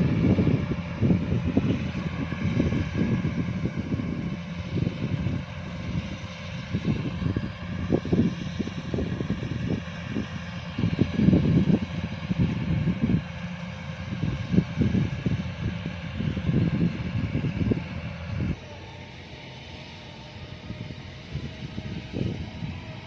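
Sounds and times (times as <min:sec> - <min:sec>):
combine harvester engine droning: 0:00.0 - 0:23.0.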